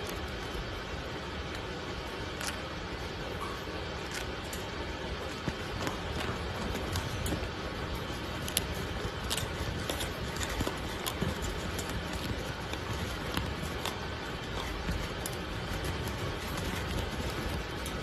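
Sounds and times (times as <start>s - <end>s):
parrot beak pecking at seeds: 0.0s - 18.0s.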